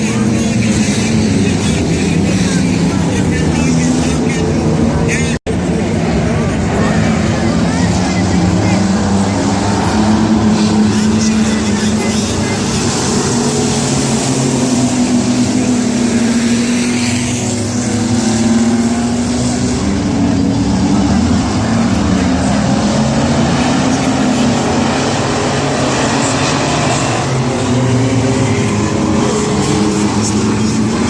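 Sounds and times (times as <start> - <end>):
race truck engines racing: 0.0 - 31.0.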